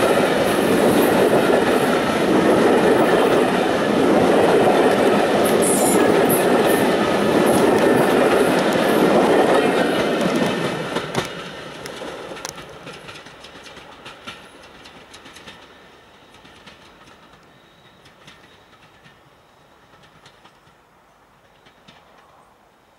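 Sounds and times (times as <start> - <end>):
train wheels rumbling and clicking: 0.0 - 22.4.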